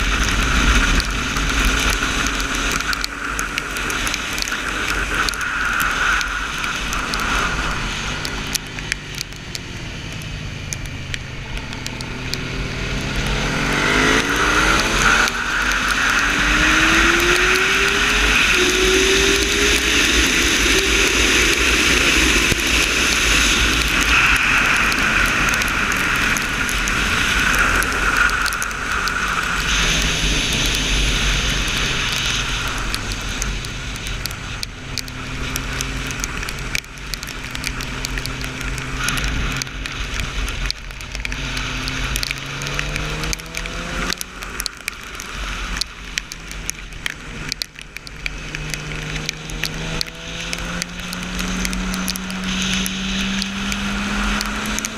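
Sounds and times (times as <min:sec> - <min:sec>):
motorcycle engine: 0:00.0 - 0:54.9
wind rush on microphone: 0:00.0 - 0:54.9.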